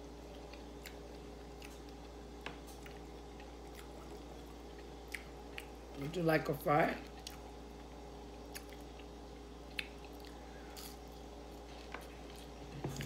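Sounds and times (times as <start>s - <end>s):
steady low hum: 0.0s - 13.0s
person chewing food: 0.2s - 5.9s, 7.0s - 13.0s.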